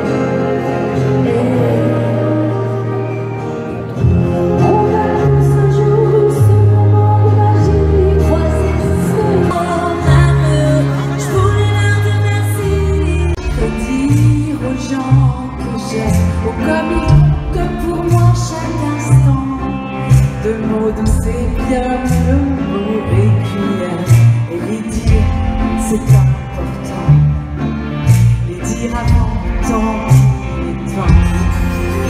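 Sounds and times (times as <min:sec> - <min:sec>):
live pop music over sound system: 0:00.0 - 0:32.0.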